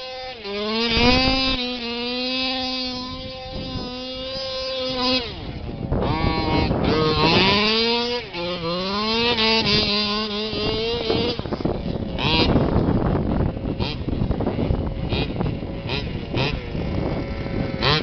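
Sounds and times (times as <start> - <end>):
two-stroke engine revving: 0.0 - 18.0.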